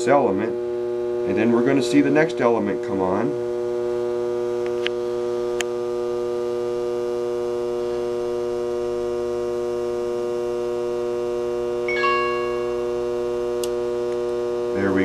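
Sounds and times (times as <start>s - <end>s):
blower motor humming: 0.0s - 15.0s.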